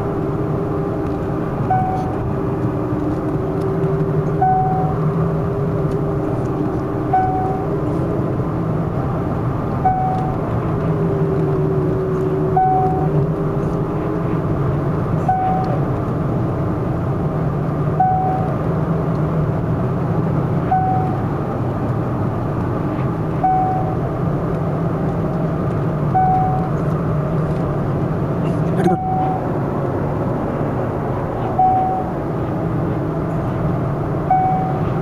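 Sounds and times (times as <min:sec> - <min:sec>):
car engine and road hum: 0:00.0 - 0:35.0.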